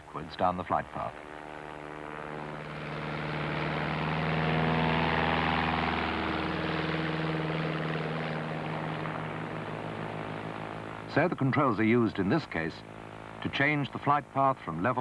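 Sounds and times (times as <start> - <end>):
propeller aeroplane engine: 0.0 - 15.0.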